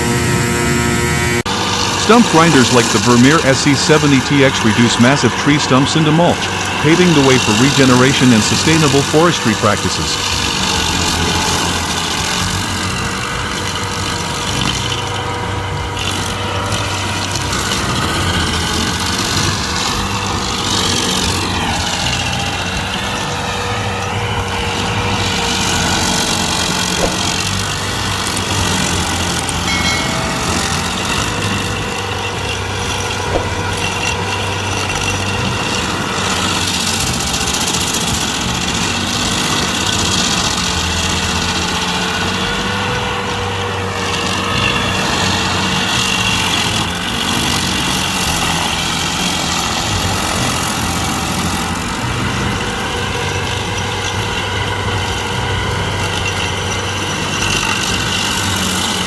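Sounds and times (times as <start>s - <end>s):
large engine running: 0.0s - 59.0s.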